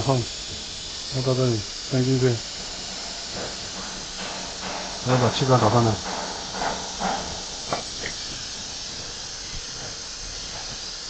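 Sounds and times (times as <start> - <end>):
compressed air hissing: 0.0 - 11.0.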